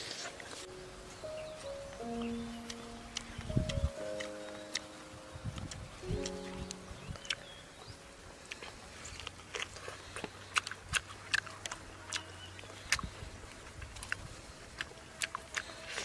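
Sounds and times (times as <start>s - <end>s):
person chewing: 1.6s - 16.0s
lip and teeth clicks: 2.2s - 7.6s, 8.4s - 16.0s.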